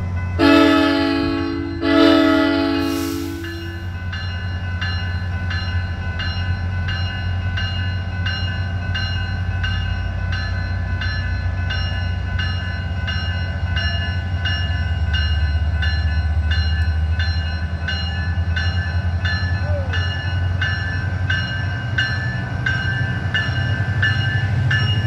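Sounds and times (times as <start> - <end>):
bell ringing: 3.1 - 25.0.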